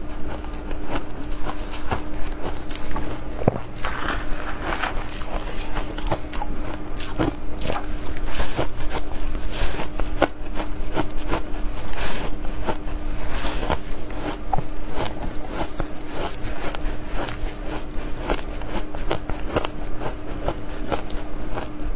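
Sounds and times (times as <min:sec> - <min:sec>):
crunching and chewing ice: 0:00.0 - 0:21.9
faint steady hum: 0:00.0 - 0:21.9.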